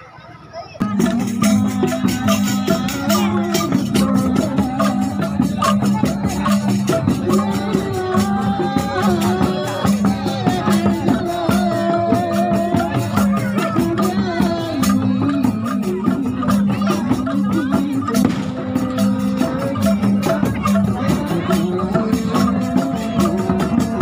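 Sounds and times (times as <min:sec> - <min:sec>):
wavering melody: 0:00.8 - 0:24.0.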